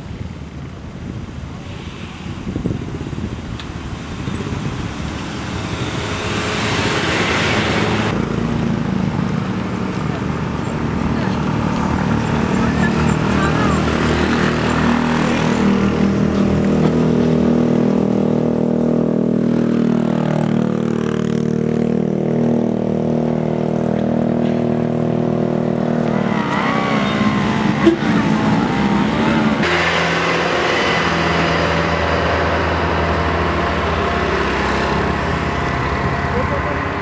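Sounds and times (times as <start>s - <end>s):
vehicle engines labouring uphill: 0.0s - 37.0s.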